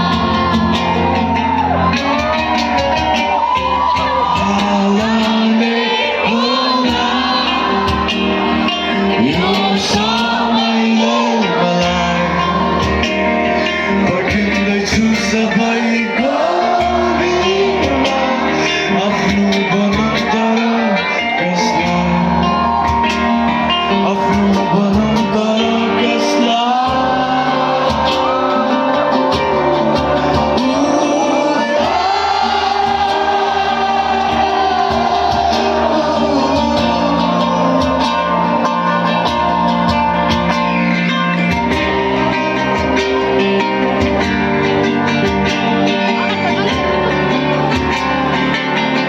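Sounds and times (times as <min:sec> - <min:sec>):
live band with singer: 0:00.0 - 0:49.0.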